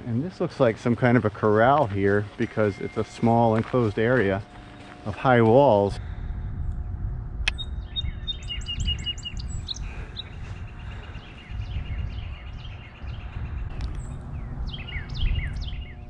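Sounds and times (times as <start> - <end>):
low rumbling noise: 0.0 - 16.0
songbirds chirping and trilling: 0.0 - 16.0.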